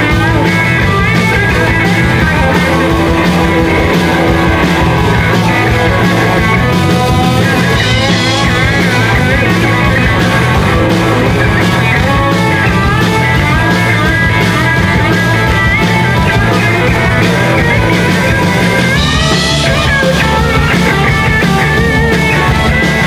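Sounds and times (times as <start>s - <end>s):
electric guitar solo with bent notes: 0.0s - 23.0s
live rock band playing: 0.0s - 23.0s.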